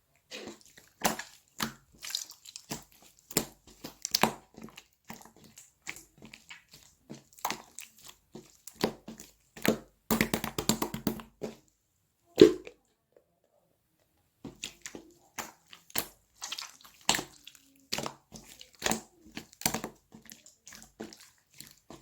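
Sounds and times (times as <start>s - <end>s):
slime squished by hand: 0.3s - 11.7s, 12.4s - 12.8s, 14.5s - 22.0s.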